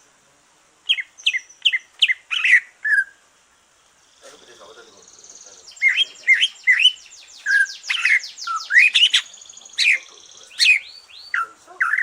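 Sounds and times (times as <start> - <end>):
bird singing whistled notes: 0.9 - 3.2, 4.0 - 12.0.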